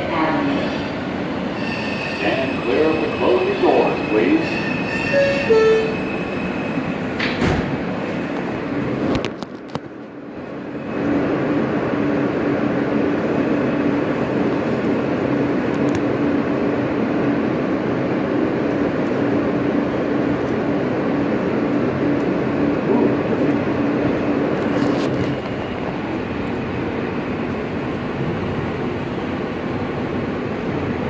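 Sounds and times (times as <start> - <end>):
subway car rumble and rail noise: 0.0 - 31.0.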